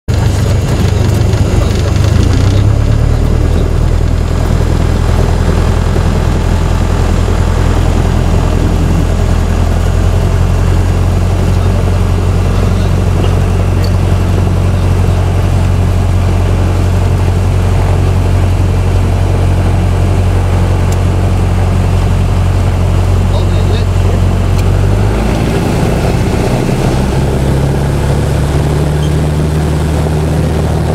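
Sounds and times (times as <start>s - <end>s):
propeller aircraft engine drone: 0.1s - 30.9s.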